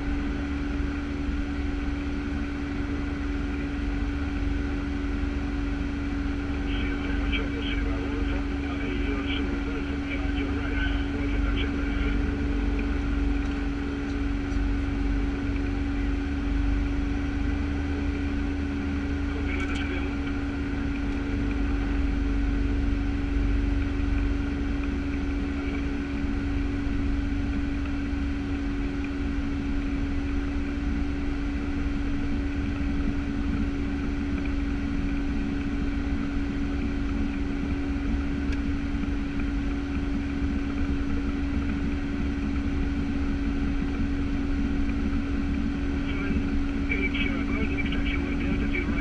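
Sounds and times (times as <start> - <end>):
low hum tone: 0.0 - 49.0
turboprop drone in cockpit: 0.0 - 49.0.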